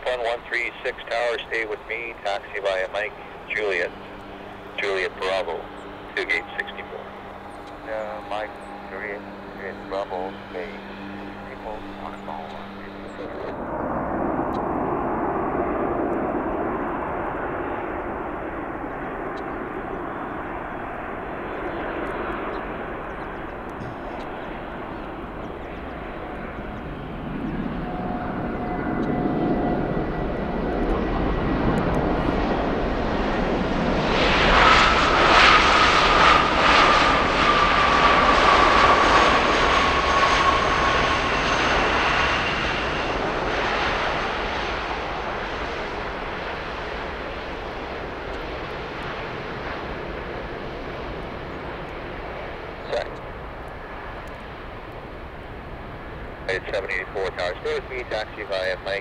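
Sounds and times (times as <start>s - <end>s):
jet engine high whine: 0.0s - 59.0s
jet engines rumbling: 0.0s - 59.0s.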